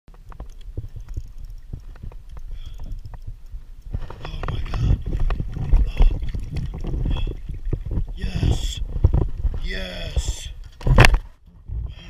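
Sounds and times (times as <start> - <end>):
water sloshing against kayak hull: 0.1 - 12.0.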